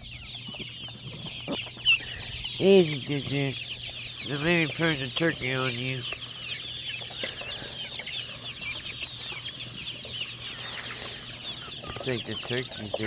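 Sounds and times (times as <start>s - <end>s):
chickens and turkeys calling: 0.0s - 13.0s.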